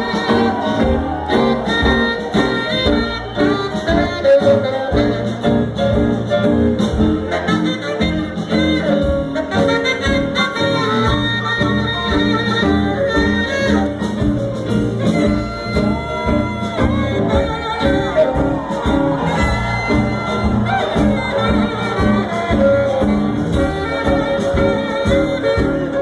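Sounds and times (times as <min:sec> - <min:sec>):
drums: 0:00.0 - 0:26.0
saxophone: 0:00.0 - 0:26.0.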